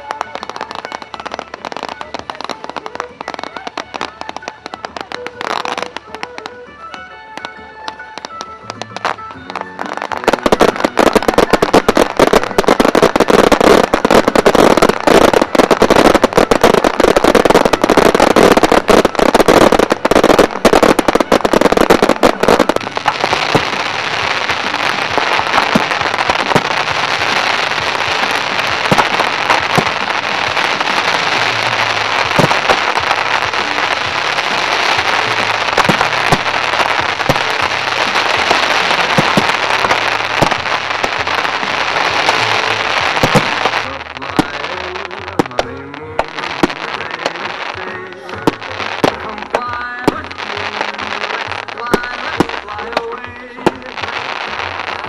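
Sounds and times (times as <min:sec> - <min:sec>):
fireworks bangs and crackles: 0:00.0 - 0:55.0
fireworks hissing crackle: 0:00.0 - 0:55.0.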